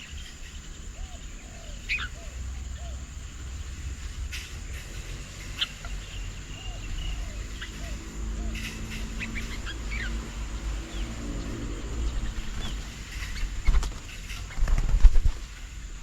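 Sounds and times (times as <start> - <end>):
low arched bird calls: 0.0 - 15.3
high insect drone: 0.0 - 16.0
small birds chirping: 0.0 - 16.0.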